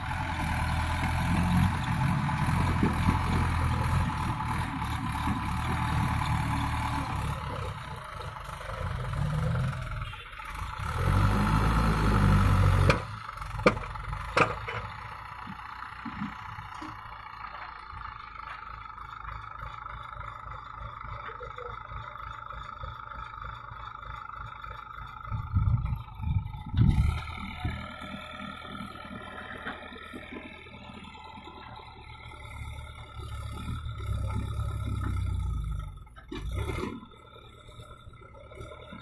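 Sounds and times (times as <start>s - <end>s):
tractor diesel engine rumbling: 0.0s - 39.0s.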